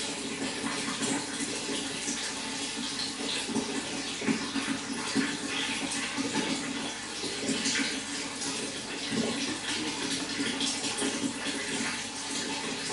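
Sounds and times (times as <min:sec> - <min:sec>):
running water rushing: 0:00.0 - 0:12.9.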